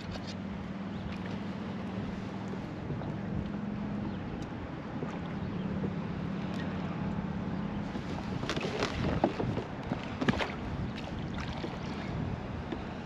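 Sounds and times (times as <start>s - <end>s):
water around kayak: 0.0s - 13.0s
wind: 0.0s - 13.0s.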